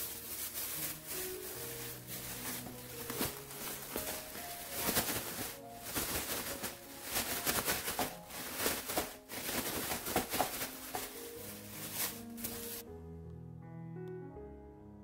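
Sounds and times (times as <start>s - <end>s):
plastic bag crinkling: 0.0s - 12.8s
soft background music: 0.0s - 15.0s.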